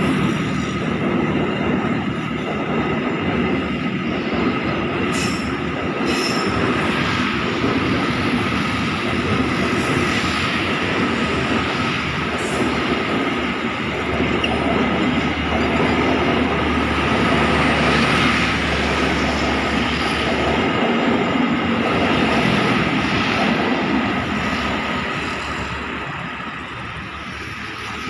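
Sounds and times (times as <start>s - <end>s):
train rolling past: 0.0s - 28.0s.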